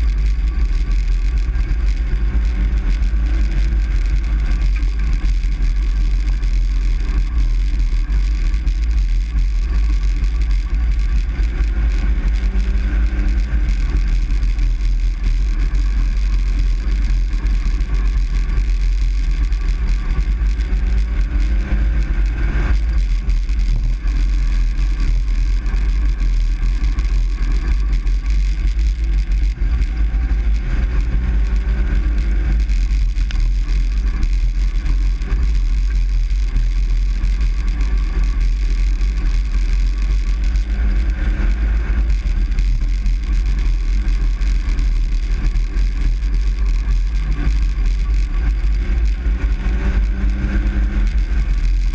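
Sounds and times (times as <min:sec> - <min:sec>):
truck engine and road rumble: 0:00.0 - 0:51.9.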